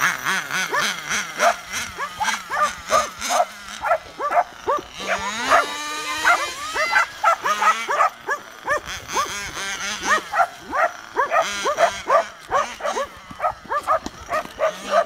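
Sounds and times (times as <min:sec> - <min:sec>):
dogs barking excitedly: 0:00.0 - 0:15.0.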